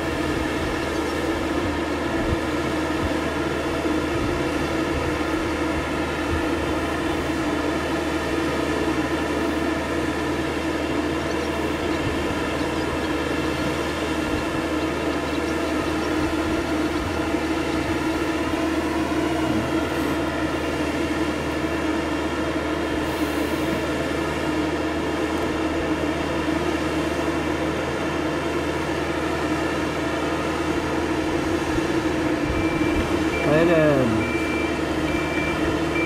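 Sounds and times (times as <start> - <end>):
lift engine droning: 0.0 - 36.0.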